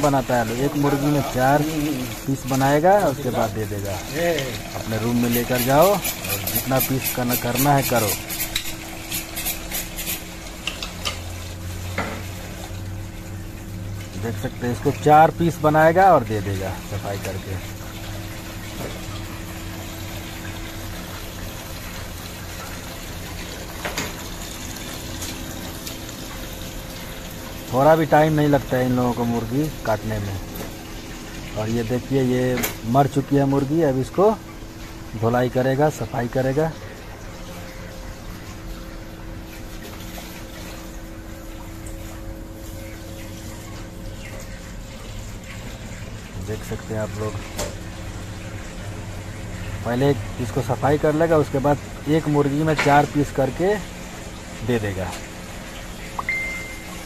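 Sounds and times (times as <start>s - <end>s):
tap water running into metal sink: 0.0s - 57.0s.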